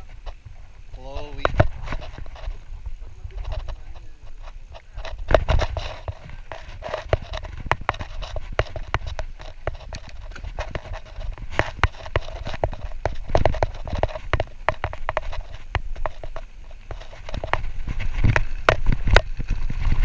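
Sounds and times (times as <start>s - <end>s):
mountain bike rattling over trail: 0.0s - 20.0s
wind rumble on microphone: 0.0s - 20.0s.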